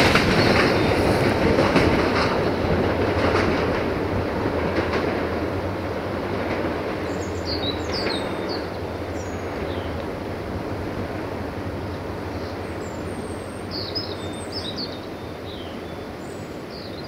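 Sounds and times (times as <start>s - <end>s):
diesel train rumbling past: 0.0s - 17.0s
birds chirping: 0.2s - 3.7s, 5.0s - 17.0s.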